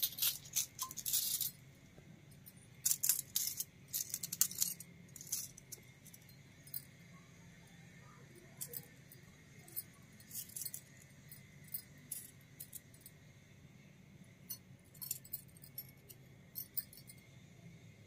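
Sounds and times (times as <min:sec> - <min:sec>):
small metal utensils clinking: 0:00.0 - 0:01.7, 0:02.3 - 0:07.2, 0:08.1 - 0:13.2, 0:14.4 - 0:17.3.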